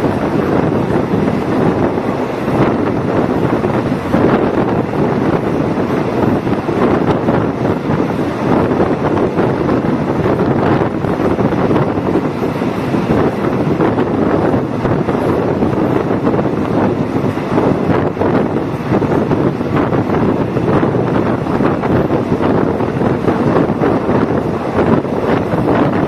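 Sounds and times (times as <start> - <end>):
train running noise: 0.0 - 26.0
wind buffeting microphone: 0.0 - 26.0.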